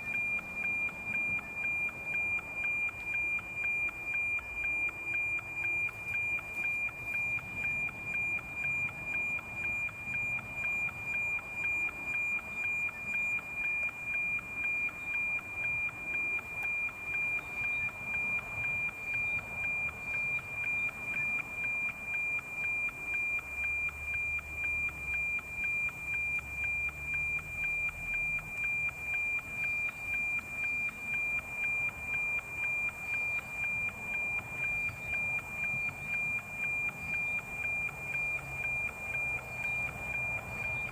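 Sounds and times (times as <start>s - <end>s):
pulsing high radio tone: 0.0s - 40.9s.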